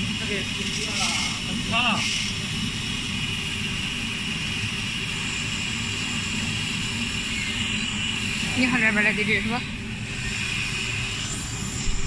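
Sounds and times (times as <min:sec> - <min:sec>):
popcorn machine rumble and whine: 0:00.0 - 0:12.0.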